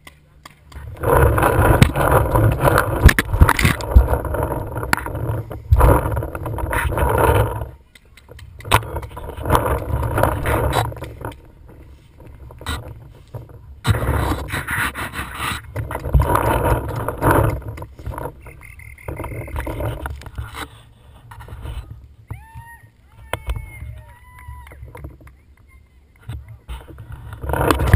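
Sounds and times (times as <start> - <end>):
wind buffeting: 0.7 - 25.3
low rumble: 0.7 - 25.4.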